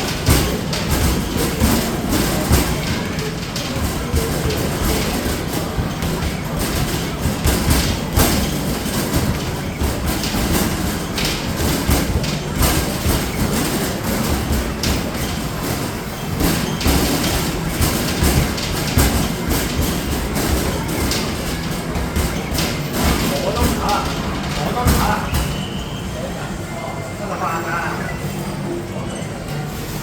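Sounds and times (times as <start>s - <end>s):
balls rolling down ramp: 0.0s - 25.9s.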